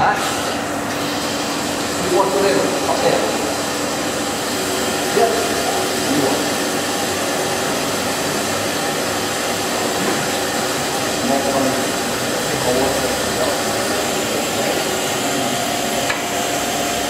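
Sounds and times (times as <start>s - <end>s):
machinery whirring: 0.0s - 17.0s.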